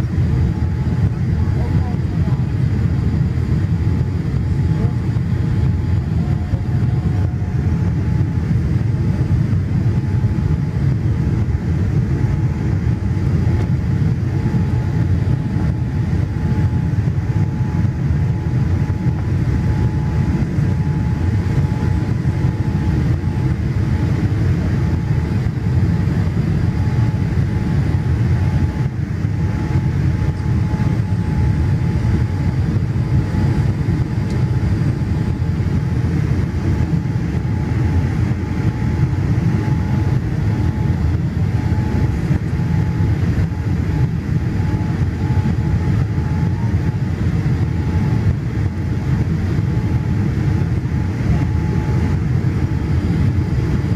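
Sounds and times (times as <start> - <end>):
aircraft engine and airflow roar: 0.0 - 53.9.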